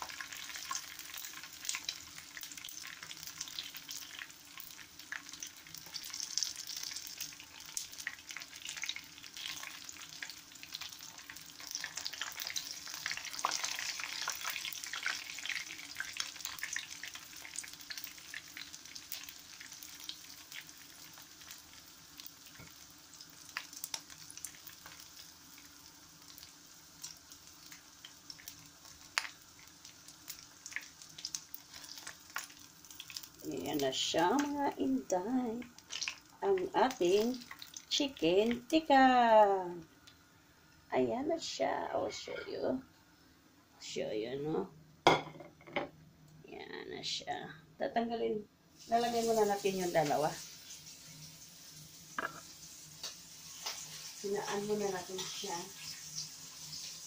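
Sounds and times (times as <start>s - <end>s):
chicken frying in hot oil: 0.0s - 40.2s, 48.7s - 57.0s.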